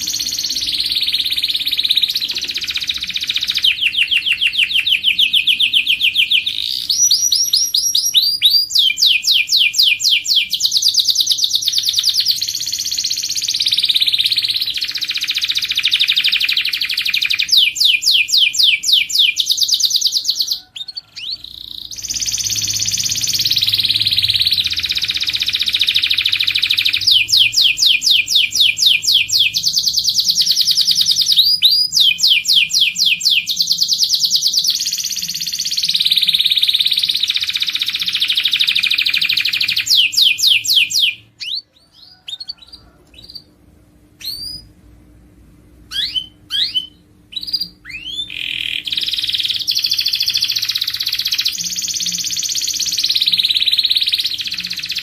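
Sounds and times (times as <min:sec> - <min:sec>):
canary singing trills: 0:00.0 - 0:44.8, 0:45.8 - 0:55.0.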